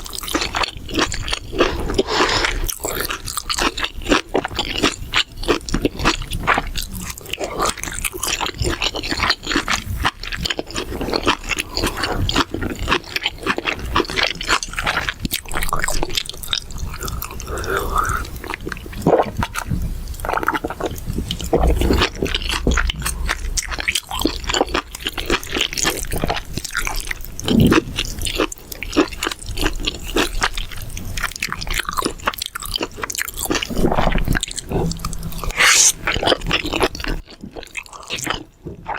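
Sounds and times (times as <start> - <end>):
crunching and wet chewing: 0.0 - 38.9.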